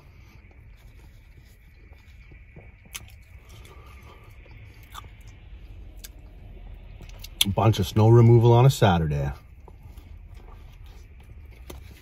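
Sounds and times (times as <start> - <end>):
quiet chewing: 0.0 - 7.6, 9.4 - 12.0
low rumble inside car: 0.0 - 12.0.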